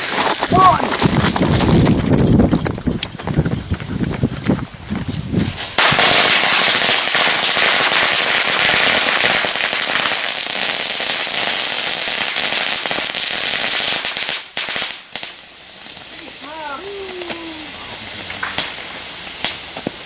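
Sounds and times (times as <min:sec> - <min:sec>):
firecrackers going off rapidly: 0:00.0 - 0:03.2, 0:05.3 - 0:20.0.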